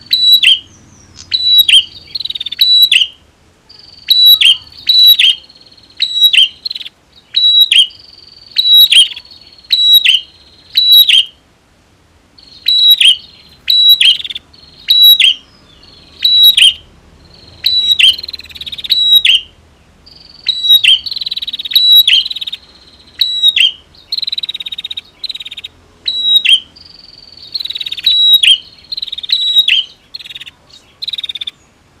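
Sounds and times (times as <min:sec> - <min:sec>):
continuous buzzing trill: 0:00.0 - 0:32.0.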